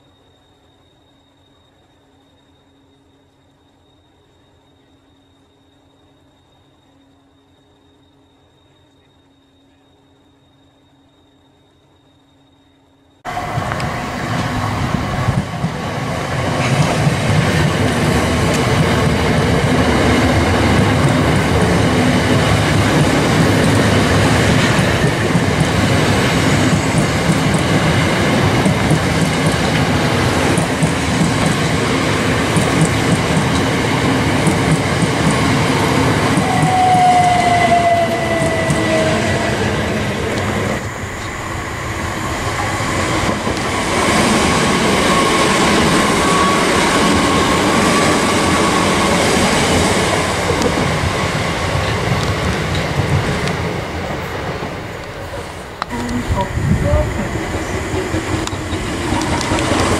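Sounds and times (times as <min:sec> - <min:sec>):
electric train rumbling on rails: 0:00.0 - 0:59.9.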